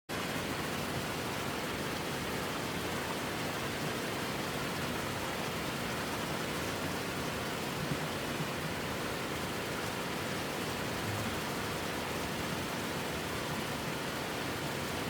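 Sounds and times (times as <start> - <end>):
waterfall roaring: 0.2 - 15.0.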